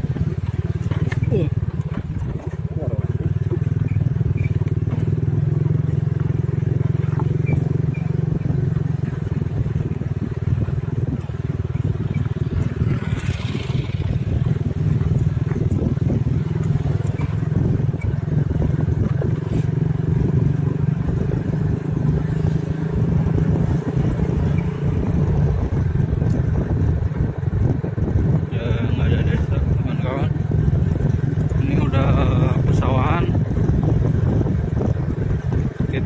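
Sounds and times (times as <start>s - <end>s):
wind noise: 0.0s - 6.0s, 6.6s - 36.0s
motorcycle engine running: 0.0s - 36.0s
rough road noise: 0.0s - 36.0s.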